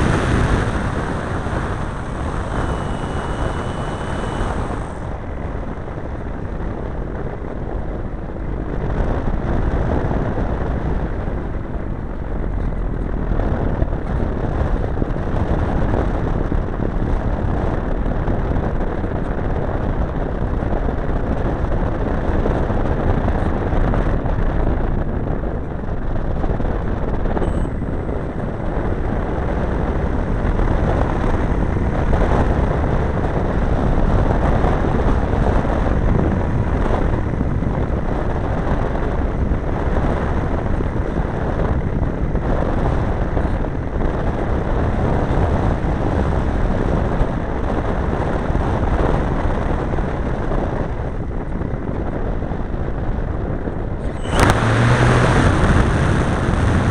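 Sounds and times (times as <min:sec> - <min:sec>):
model airplane engine: 0:00.0 - 0:56.9
wind buffeting: 0:00.0 - 0:56.9.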